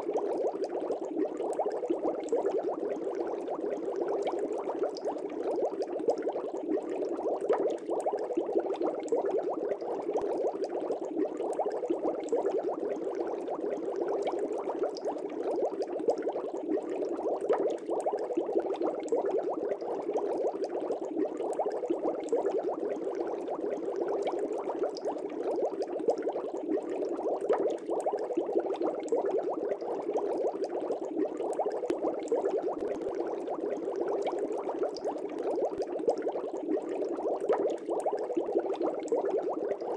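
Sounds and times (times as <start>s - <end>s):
aquarium bubbling: 0.0s - 39.9s.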